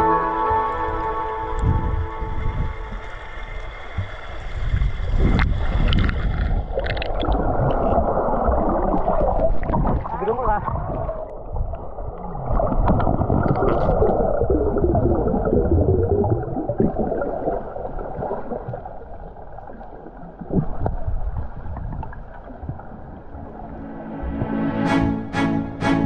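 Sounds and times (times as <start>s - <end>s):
water gurgling underwater: 0.0s - 24.6s.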